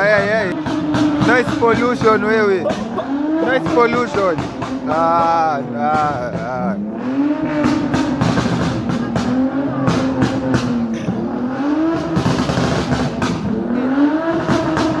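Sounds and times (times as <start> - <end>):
car engine revving: 0.0 - 15.0
exhaust pops and crackles: 0.0 - 15.0.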